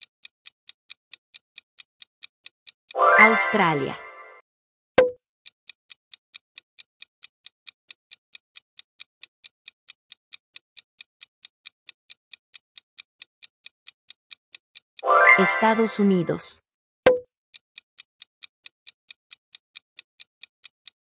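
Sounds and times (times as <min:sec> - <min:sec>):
clock ticking: 0:00.0 - 0:04.4, 0:05.0 - 0:16.5, 0:17.1 - 0:21.0.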